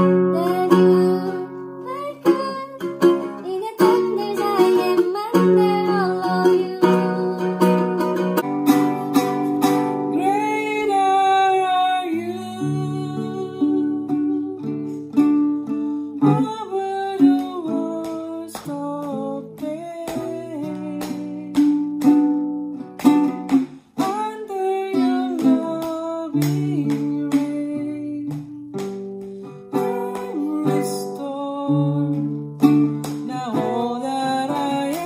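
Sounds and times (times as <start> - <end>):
woman singing: 0.0 - 8.4, 9.8 - 22.6, 23.4 - 35.0
classical guitar strummed: 0.0 - 35.0.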